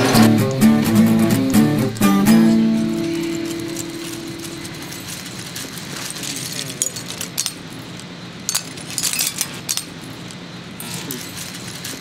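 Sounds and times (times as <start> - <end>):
electronic scrap clinking and rattling: 0.0 - 10.3
steady low hum: 0.0 - 11.3.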